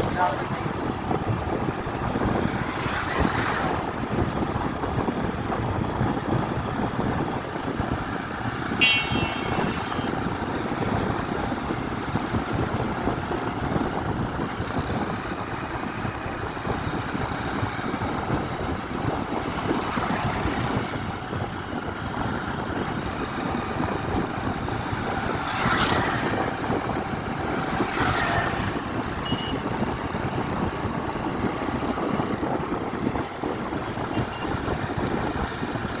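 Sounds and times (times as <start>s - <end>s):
highway traffic: 0.0s - 36.0s
vehicles whooshing past: 0.0s - 36.0s
wind noise: 0.0s - 36.0s.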